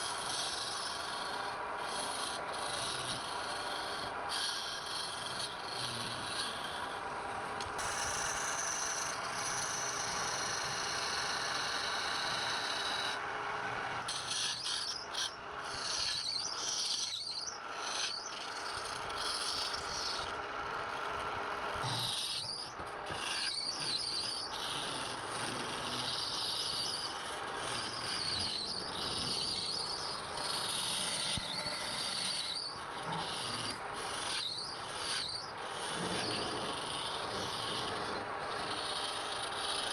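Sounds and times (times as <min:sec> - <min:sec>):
tool rasping on spinning wood: 0:00.0 - 0:39.9.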